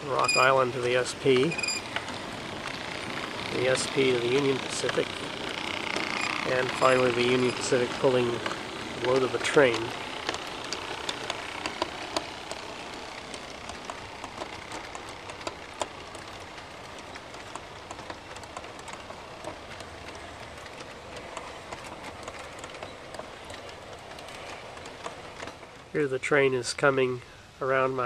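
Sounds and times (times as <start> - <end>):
model train wheels rolling hiss: 0.0 - 28.0
small irregular clicks: 0.2 - 26.0.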